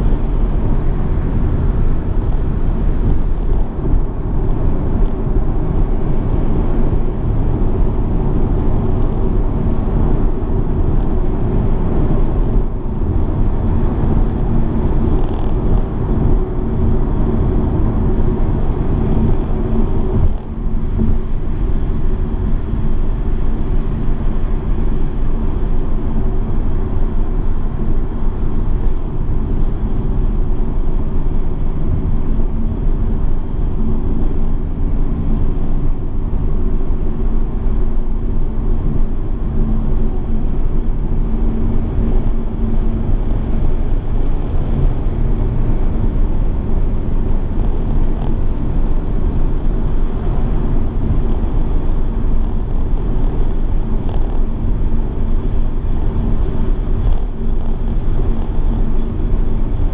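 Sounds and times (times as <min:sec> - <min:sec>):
low engine drone: 0:00.0 - 0:59.9
road tyre and wind noise: 0:00.0 - 0:59.9.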